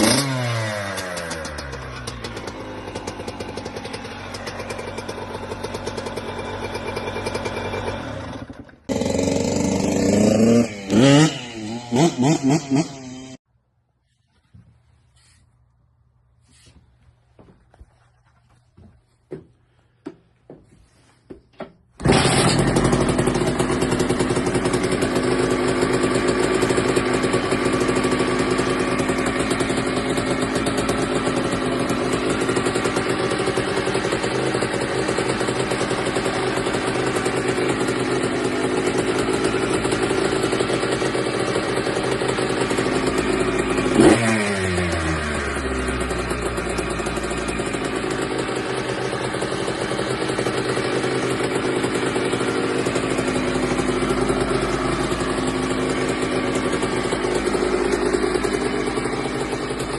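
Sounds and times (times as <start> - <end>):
dirt bike engine running: 0.0 - 13.4, 22.0 - 59.9.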